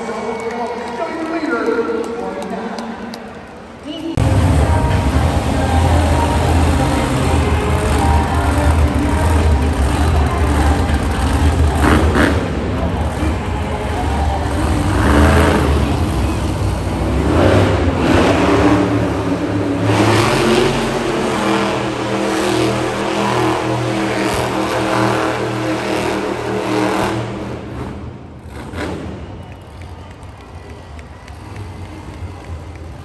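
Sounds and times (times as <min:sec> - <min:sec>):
truck engine revving hard: 0:04.1 - 0:33.0.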